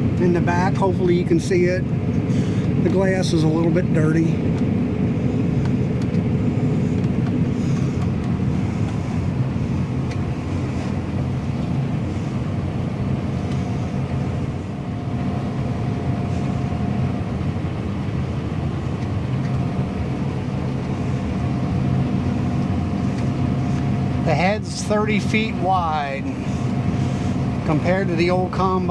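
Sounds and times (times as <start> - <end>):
combine harvester engine drone: 0.0 - 28.9
faint steady whine: 0.0 - 28.9.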